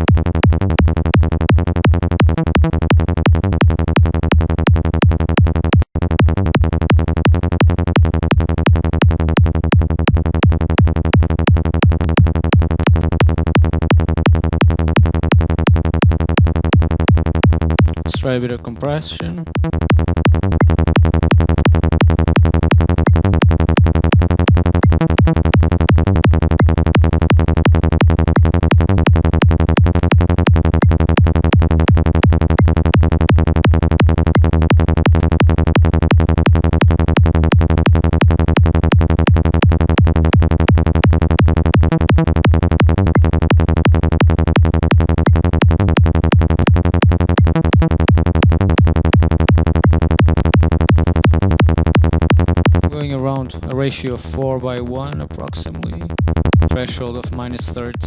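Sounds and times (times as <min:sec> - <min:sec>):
synthesizer bass loop: 0:00.0 - 0:58.0.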